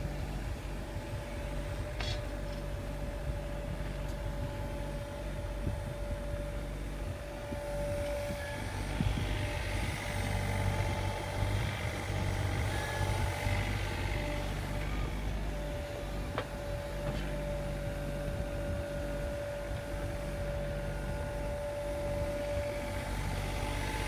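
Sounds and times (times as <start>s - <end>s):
engine whine: 0.0s - 24.0s
excavator diesel engine running: 0.0s - 24.0s.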